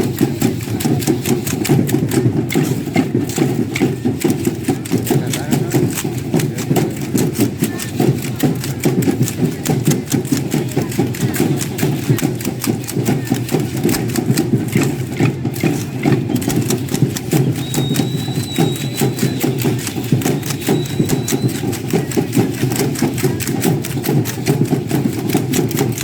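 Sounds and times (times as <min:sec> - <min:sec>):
fast dance percussion: 0:00.0 - 0:26.0.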